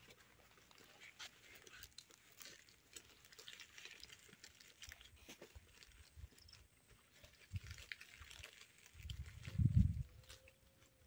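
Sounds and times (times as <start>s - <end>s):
leaves rustling and crinkling: 0.0s - 11.0s.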